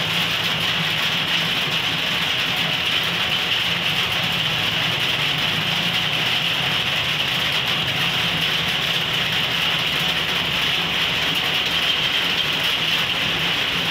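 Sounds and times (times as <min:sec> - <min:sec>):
rain on a roof: 0:00.0 - 0:13.9
vehicle engines humming: 0:00.0 - 0:13.9.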